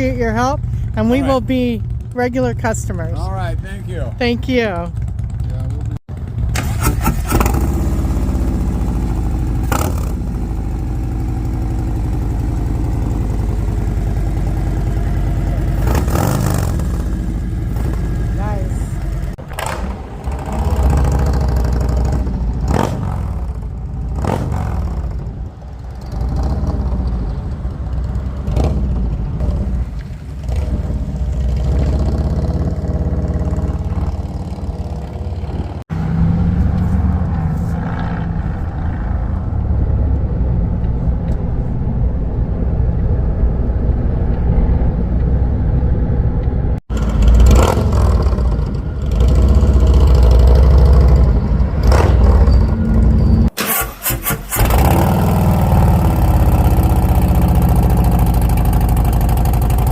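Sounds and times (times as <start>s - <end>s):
motorcycle engine rumble: 0.0s - 59.9s.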